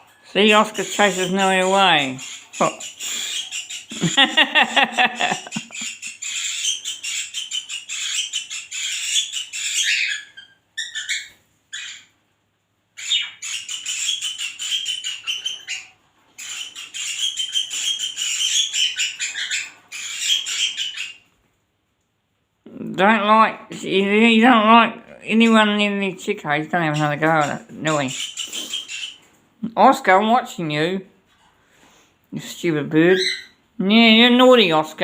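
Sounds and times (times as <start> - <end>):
budgies chirping and chattering: 0.0 - 12.2, 12.9 - 21.4, 22.7 - 35.0.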